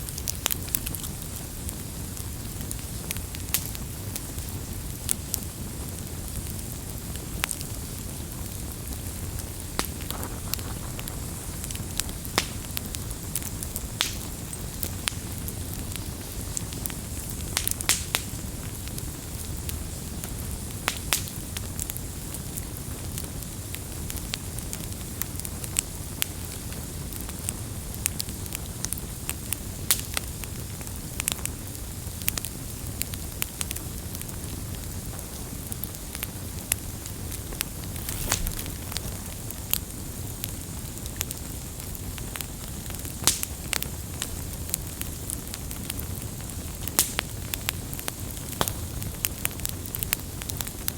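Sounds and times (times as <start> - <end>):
campfire burning: 0.0 - 50.9
fire popping and crackling: 0.0 - 50.9.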